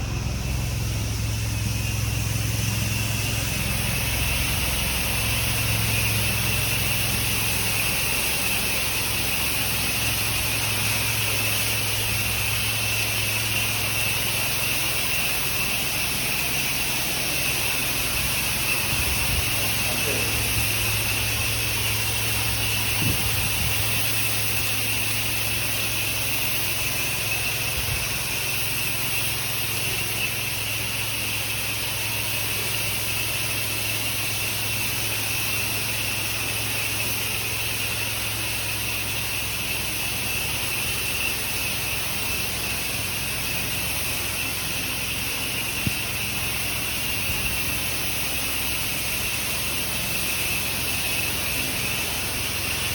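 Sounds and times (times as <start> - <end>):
pressure washer engine humming: 0.0 - 52.9.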